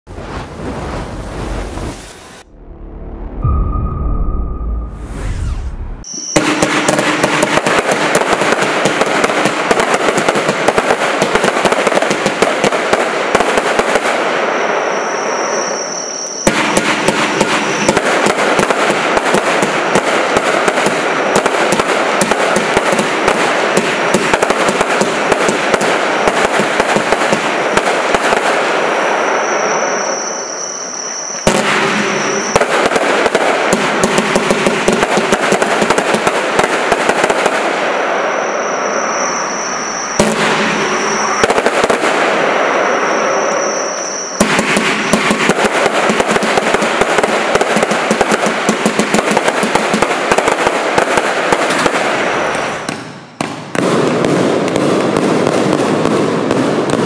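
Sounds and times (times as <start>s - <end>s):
fireworks launching and bursting: 0.0s - 2.5s, 3.4s - 57.0s.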